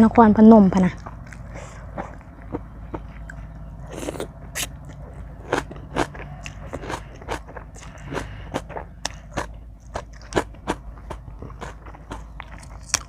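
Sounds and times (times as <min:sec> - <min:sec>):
person chewing crunchy food: 0:00.9 - 0:13.0.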